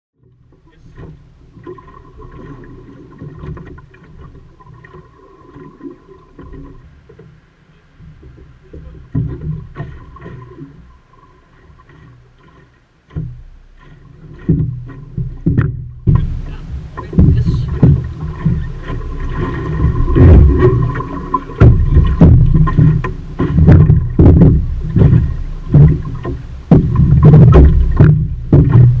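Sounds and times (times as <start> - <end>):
boat knocks and thumps: 0.2 - 29.0
water slapping against hull: 0.2 - 29.0.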